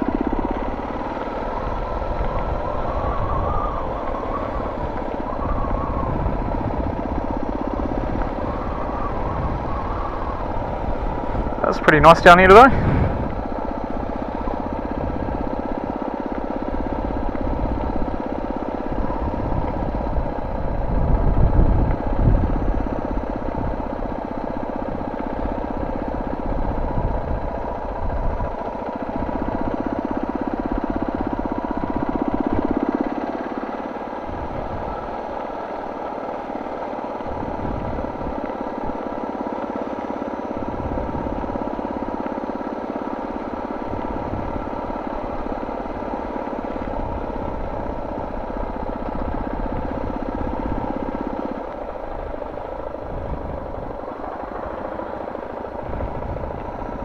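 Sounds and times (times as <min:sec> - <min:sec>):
wind rumble on microphone: 0:00.0 - 0:33.1, 0:34.2 - 0:36.0, 0:37.2 - 0:39.2, 0:40.5 - 0:42.4, 0:43.4 - 0:57.0
motorcycle engine running: 0:00.0 - 0:57.0.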